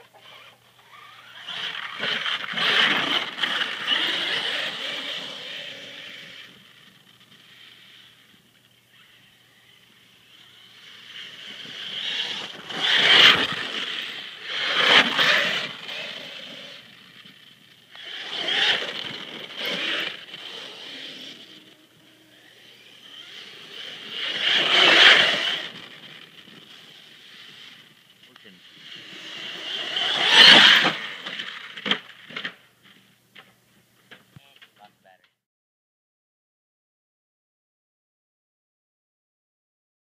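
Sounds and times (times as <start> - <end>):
electric rc truck motor whine: 0.0 - 32.6.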